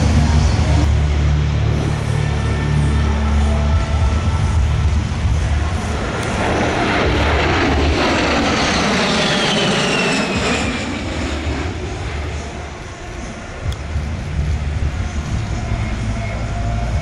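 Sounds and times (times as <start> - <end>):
jet engine rush with whine: 0.0 - 17.0.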